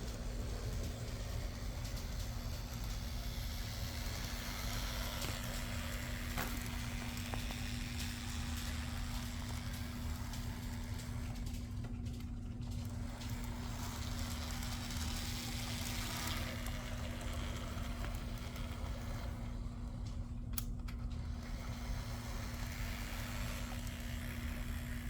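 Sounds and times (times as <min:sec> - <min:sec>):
model locomotive motor hum: 0:00.0 - 0:25.0
wheels on rails: 0:00.0 - 0:25.0.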